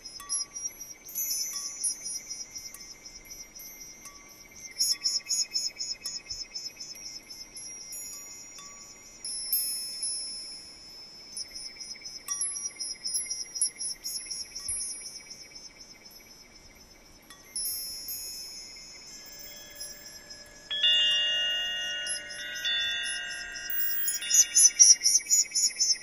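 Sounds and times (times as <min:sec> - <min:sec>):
metallic chimes tinkling: 0:00.0 - 0:15.5, 0:16.2 - 0:26.0.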